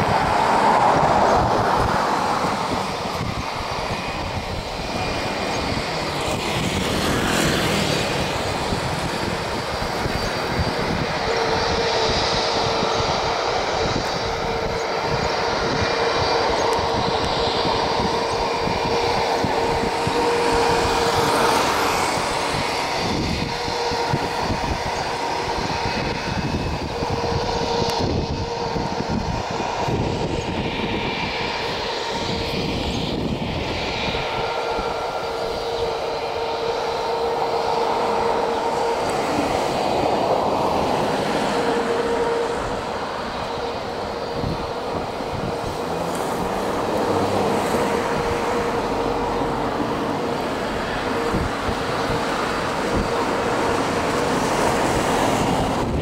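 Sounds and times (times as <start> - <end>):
high engine whine: 0.0 - 56.0
jet engines roaring: 0.0 - 56.0.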